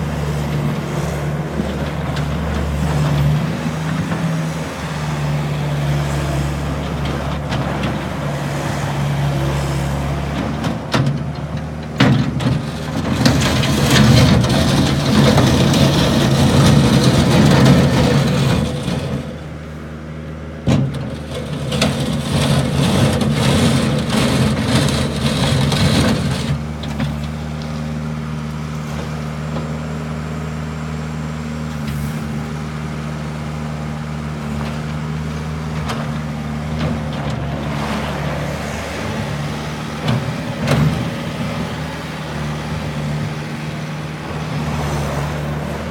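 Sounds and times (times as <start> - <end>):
skid steer diesel engine revving: 0.0 - 45.9.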